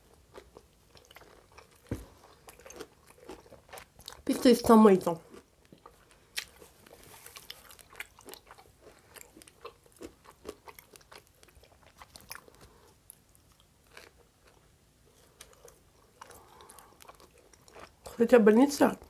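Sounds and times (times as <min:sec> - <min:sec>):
chewing crunchy pizza crust: 0:00.0 - 0:18.2.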